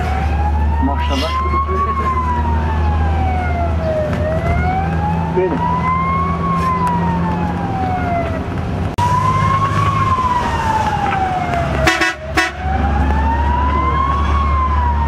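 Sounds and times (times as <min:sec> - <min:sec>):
emergency siren wailing: 0:00.0 - 0:15.0
vehicle engine humming: 0:00.0 - 0:15.0.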